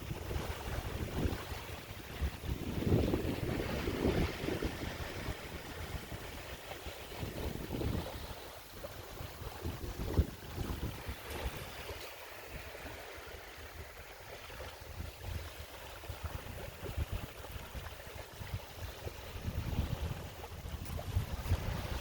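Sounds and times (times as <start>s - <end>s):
sea water lapping: 0.0s - 22.0s
wind buffeting microphone: 0.0s - 22.0s.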